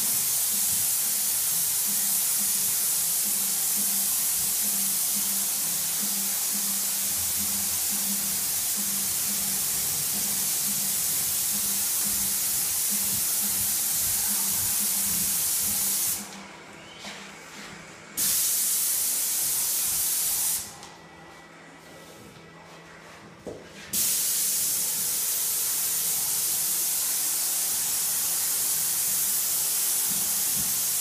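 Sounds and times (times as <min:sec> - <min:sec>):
paint spray gun hissing: 0:00.0 - 0:16.3, 0:18.2 - 0:20.7, 0:23.9 - 0:31.0.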